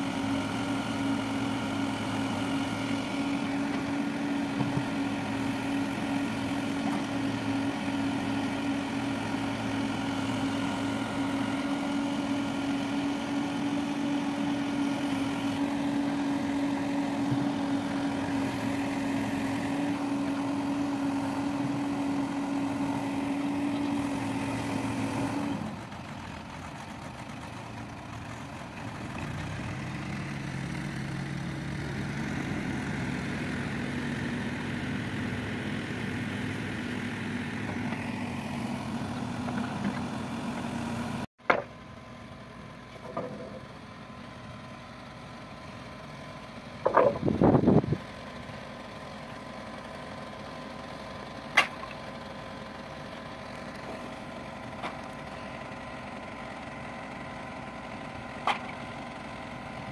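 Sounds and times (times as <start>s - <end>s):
diesel backhoe engine running: 0.0s - 59.9s
tractor engine driving away: 0.0s - 59.9s.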